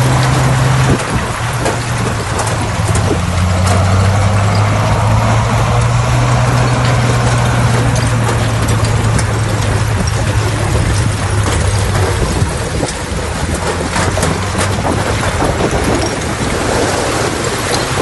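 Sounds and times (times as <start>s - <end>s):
bulldozer diesel engine running: 0.0s - 18.0s
clanks and clicks: 0.0s - 18.0s.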